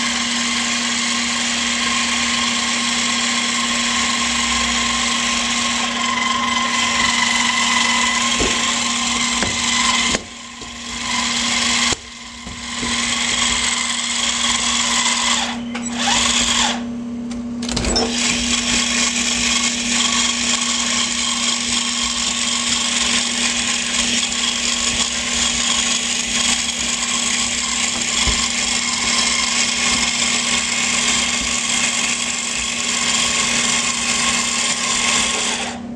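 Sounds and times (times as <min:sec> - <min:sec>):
electric motor whine: 0:00.0 - 0:16.9, 0:17.9 - 0:35.9.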